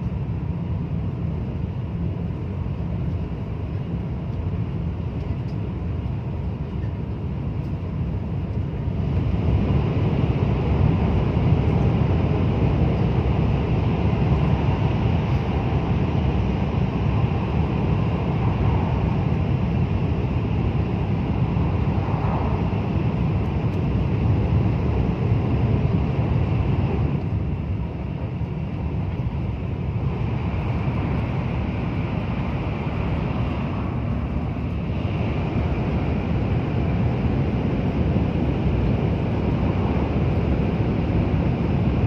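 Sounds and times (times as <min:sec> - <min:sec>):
train rumbling inside cabin: 0:00.0 - 0:42.0.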